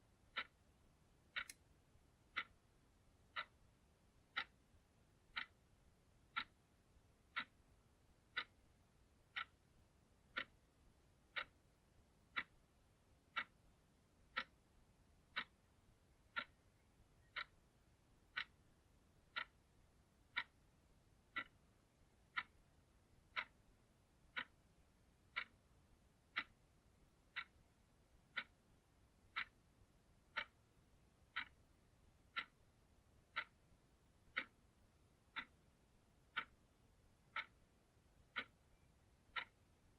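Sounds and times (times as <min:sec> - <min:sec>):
clock ticking: 0:00.1 - 0:39.9.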